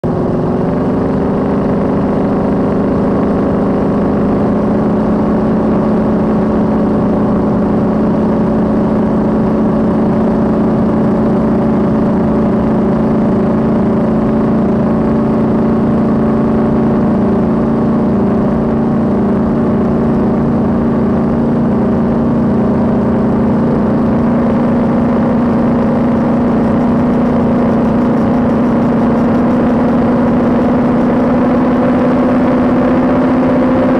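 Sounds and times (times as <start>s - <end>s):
race boat engine running: 0.0s - 33.9s.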